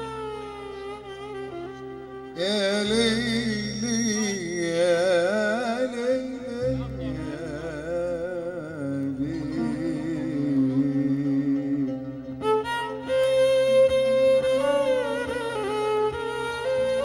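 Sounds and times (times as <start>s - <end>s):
band music with violin melody: 0.0s - 4.7s, 6.7s - 17.0s.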